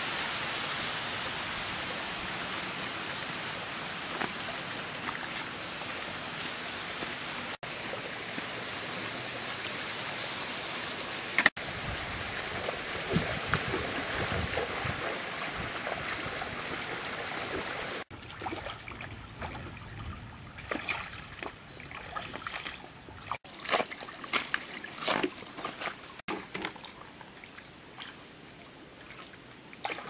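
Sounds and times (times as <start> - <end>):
stream running over stones: 0.0 - 30.0
feet wading and splashing: 2.0 - 28.3, 28.9 - 30.0.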